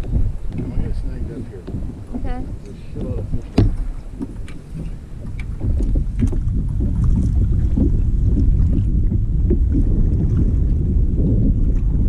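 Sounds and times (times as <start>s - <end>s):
water moving along hull: 0.0s - 12.0s
wind on microphone: 0.0s - 12.0s.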